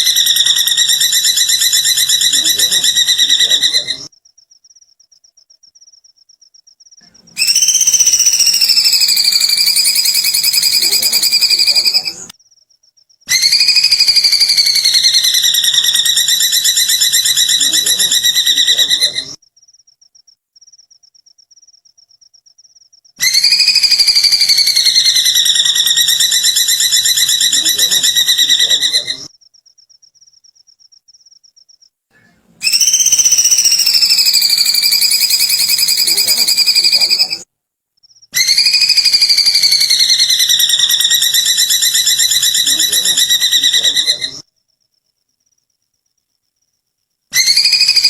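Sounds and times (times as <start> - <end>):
rapid bird trill: 0.0 - 31.9, 32.6 - 44.7, 47.3 - 48.0.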